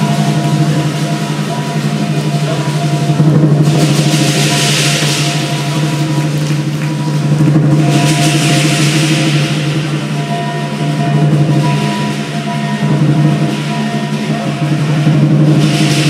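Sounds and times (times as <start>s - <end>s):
cymbals clashing: 0.0s - 16.0s
drum playing rapid beats: 0.0s - 16.0s.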